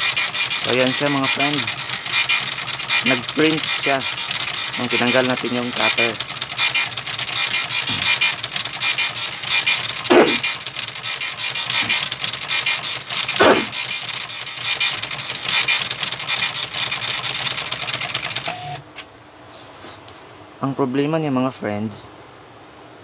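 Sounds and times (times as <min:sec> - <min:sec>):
dot-matrix printer buzzing chatter: 0:00.0 - 0:18.8.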